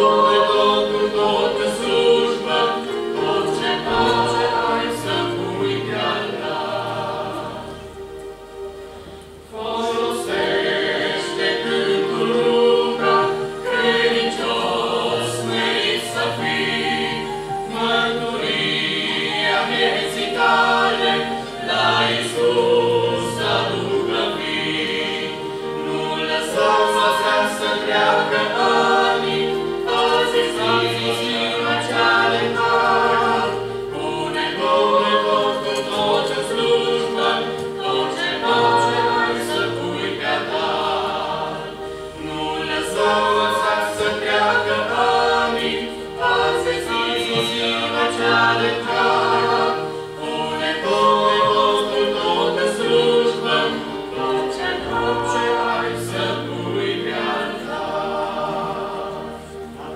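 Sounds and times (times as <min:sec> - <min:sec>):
vocal quartet singing a hymn: 0:00.0 - 0:59.9.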